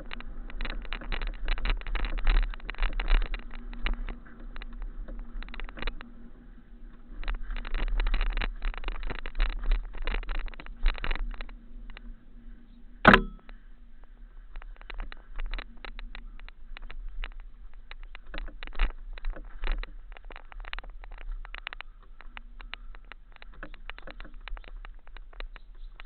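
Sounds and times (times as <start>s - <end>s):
low rumble: 0.0s - 25.1s
bike rattling over rocks: 0.0s - 26.0s.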